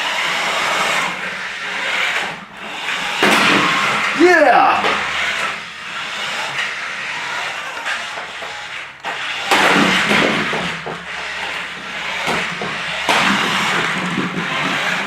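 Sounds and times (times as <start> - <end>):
toy remote-control car motor: 0.0 - 15.0.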